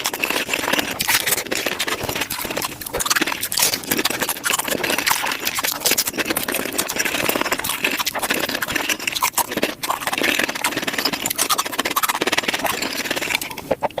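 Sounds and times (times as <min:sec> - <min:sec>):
taco chewing and crunching: 0:00.0 - 0:14.0.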